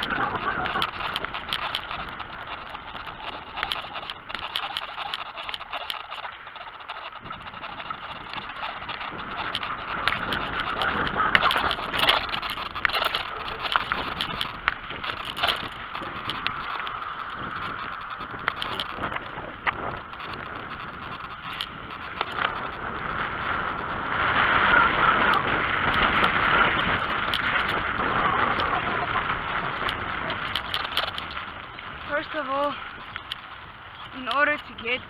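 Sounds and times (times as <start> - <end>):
bicycle clicks and knocks: 0.0 - 35.0
wind buffeting microphone: 0.0 - 35.0.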